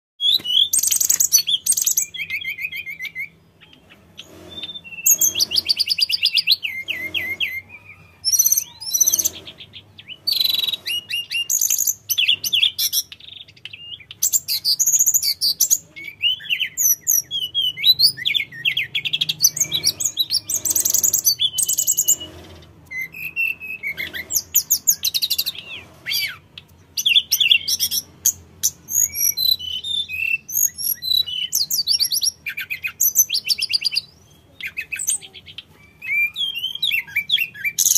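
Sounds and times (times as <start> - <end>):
bird singing whistles and trills: 0.2 - 37.9.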